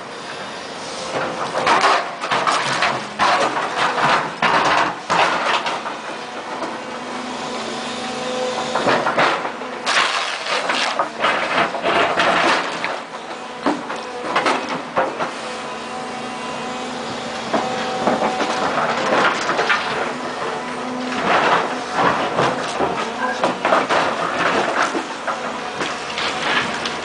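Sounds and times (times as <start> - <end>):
excavator diesel engine under load: 0.0 - 27.0.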